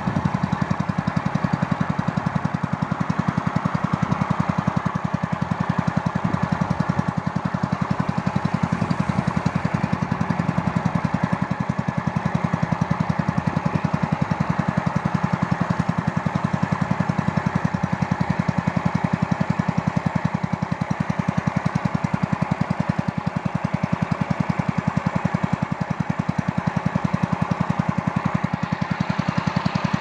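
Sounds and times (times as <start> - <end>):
small engine running steadily: 0.0 - 30.0.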